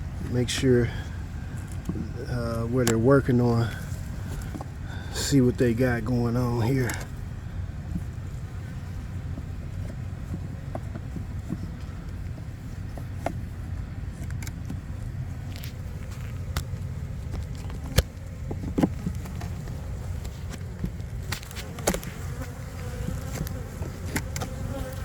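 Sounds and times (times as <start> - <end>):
steady low rumble: 0.0 - 22.2.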